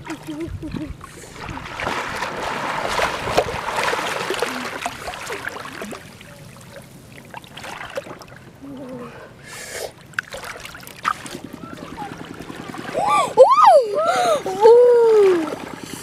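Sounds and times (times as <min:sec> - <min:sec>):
muddy water splashing: 0:00.0 - 0:16.0.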